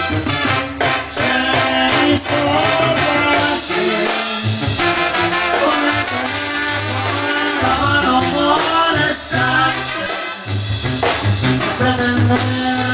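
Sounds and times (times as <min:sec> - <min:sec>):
bass line: 0:00.0 - 0:12.9
brass band playing live: 0:00.0 - 0:12.9
drum kit: 0:00.0 - 0:12.9.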